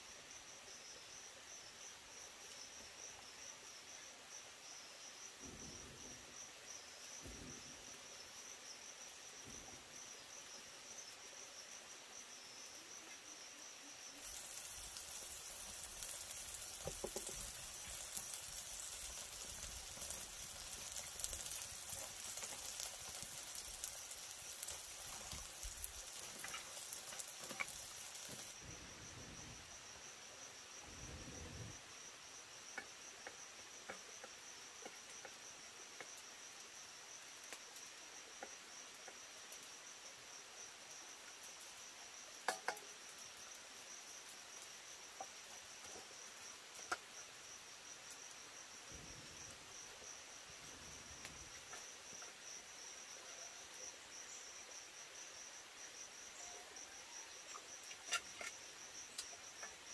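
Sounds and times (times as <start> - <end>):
crackling hiss: 0.0 - 59.9
crickets trilling: 0.0 - 59.9.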